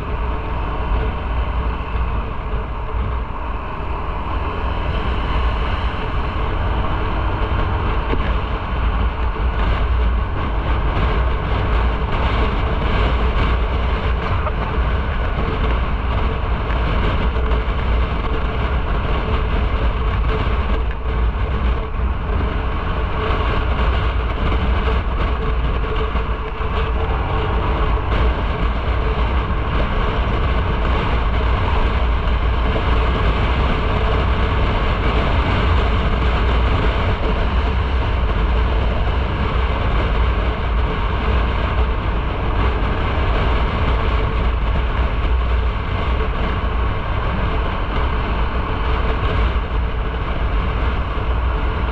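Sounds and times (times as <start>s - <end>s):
motorcycle engine: 0.0s - 51.9s
road noise: 0.0s - 51.9s
wind buffeting on microphone: 0.0s - 51.9s
wind rush: 0.0s - 51.9s.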